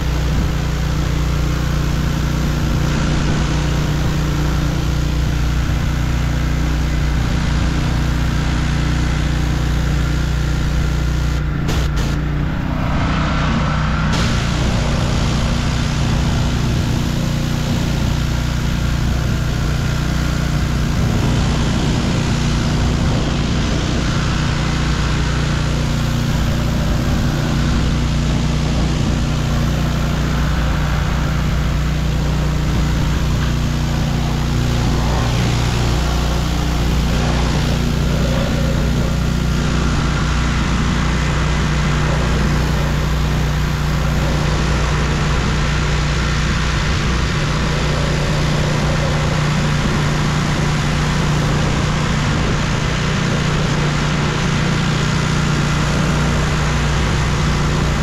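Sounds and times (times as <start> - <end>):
high-pressure water spraying: 0.0 - 58.0
small engine running: 0.0 - 58.0.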